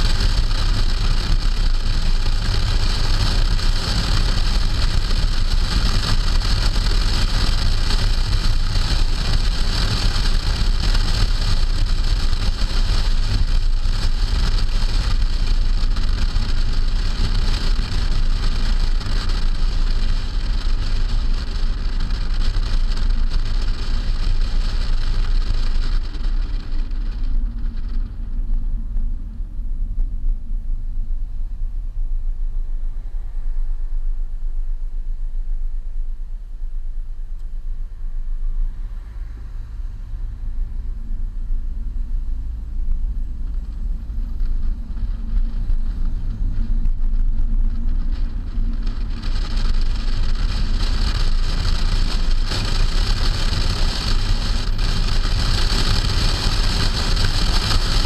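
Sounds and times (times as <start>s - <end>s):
low rumble: 0.0s - 58.0s
road noise: 0.0s - 58.0s
wind rushing over car: 0.0s - 58.0s.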